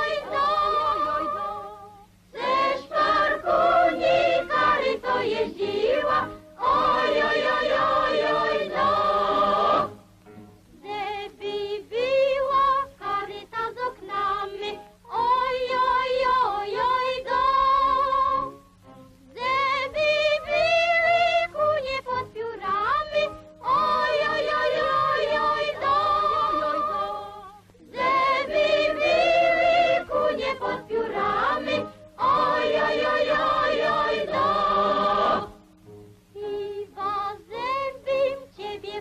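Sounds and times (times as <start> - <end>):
choir singing folk song: 0.0 - 18.7, 19.3 - 35.7, 36.3 - 39.0.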